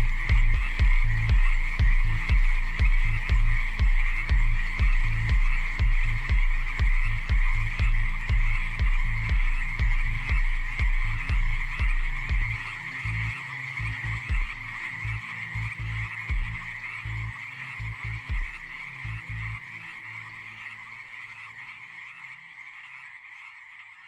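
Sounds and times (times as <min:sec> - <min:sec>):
deep techno bass thumps: 0:00.0 - 0:19.6
frogs croaking: 0:00.0 - 0:24.0.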